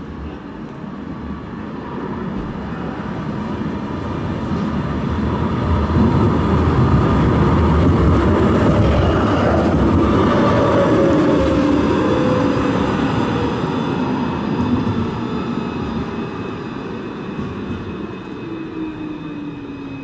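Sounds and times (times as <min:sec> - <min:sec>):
tram wheels rumbling on rail: 0:00.0 - 0:20.0
tram motor whine: 0:00.1 - 0:20.0.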